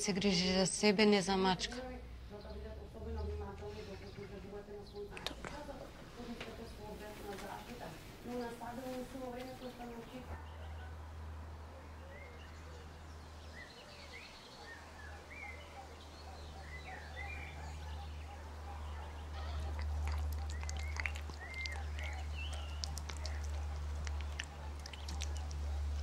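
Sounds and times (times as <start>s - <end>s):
low outdoor rumble: 0.0s - 13.5s, 17.1s - 26.0s
small birds chirping: 1.4s - 11.0s, 11.6s - 26.0s.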